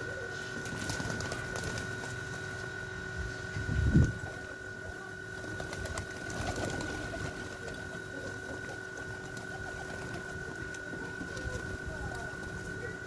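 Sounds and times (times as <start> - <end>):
pigeons cooing: 0.0 - 2.8, 4.0 - 13.0.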